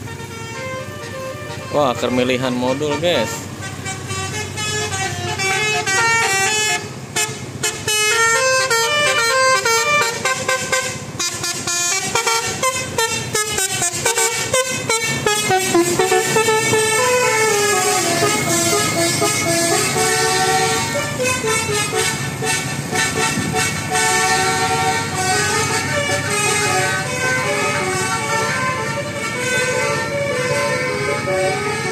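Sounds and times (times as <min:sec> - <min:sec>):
multi-tone musical air horn: 0:00.0 - 0:31.9.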